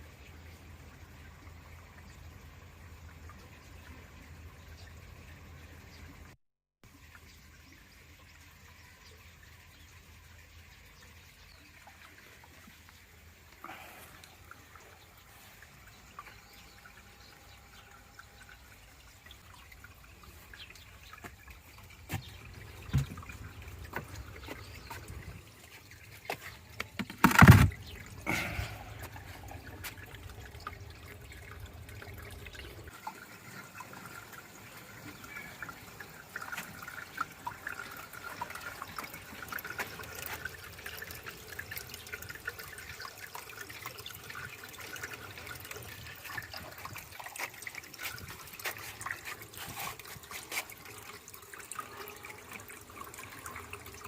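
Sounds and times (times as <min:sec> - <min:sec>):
aquarium water trickling: 0:00.0 - 0:54.0.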